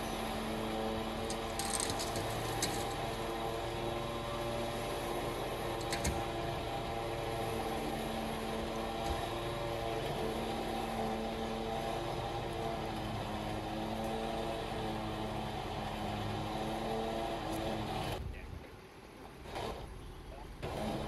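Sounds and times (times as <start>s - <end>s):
motor running steadily: 0.0s - 18.6s, 19.2s - 21.0s.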